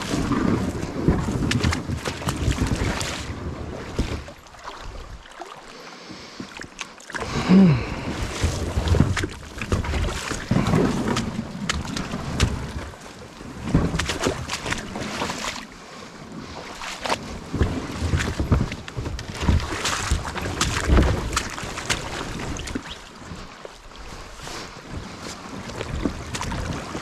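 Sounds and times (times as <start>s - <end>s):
paddle splashes: 0.0s - 27.0s.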